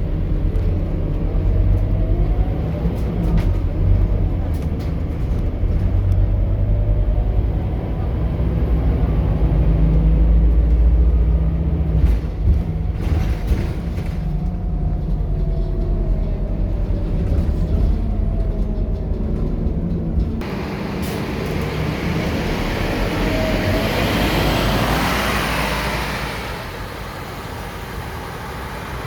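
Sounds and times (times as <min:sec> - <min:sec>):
bus diesel engine pulling: 0:00.0 - 0:29.0.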